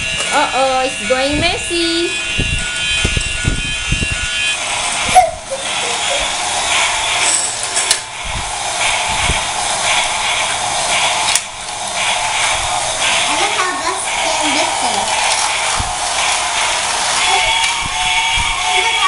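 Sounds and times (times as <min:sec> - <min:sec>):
toy train motor whirring: 0:00.0 - 0:19.0.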